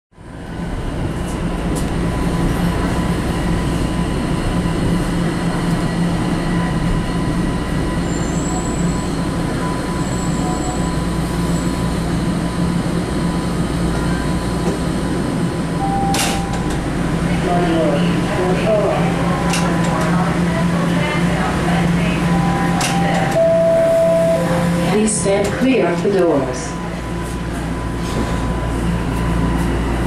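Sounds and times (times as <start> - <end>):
subway train running rumble: 0.1 - 30.0.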